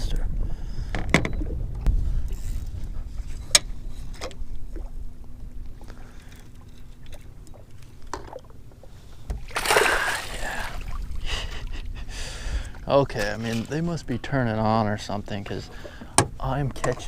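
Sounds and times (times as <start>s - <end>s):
faint steady hum: 0.0s - 17.0s
wind and water against hull: 0.0s - 17.0s.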